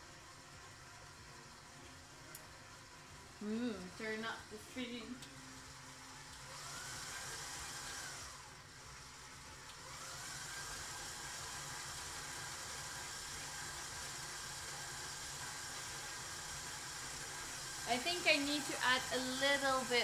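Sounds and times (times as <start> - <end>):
electric stand mixer whirring: 0.0 - 20.0.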